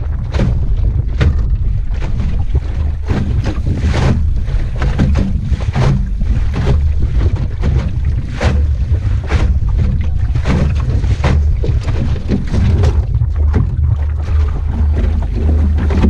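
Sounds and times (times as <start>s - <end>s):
water splashing against hull: 0.0s - 16.0s
wind noise on microphone: 0.0s - 16.0s.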